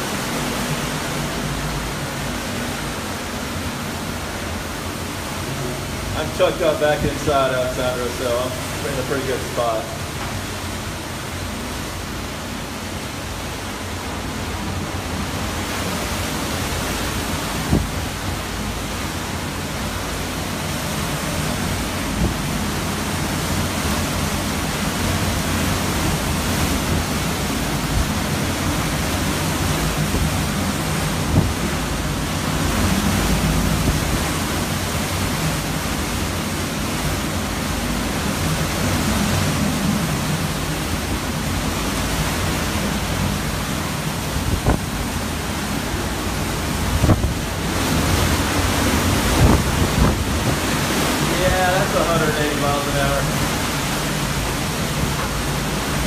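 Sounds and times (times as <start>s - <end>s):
wind and driven rain: 0.0s - 56.0s.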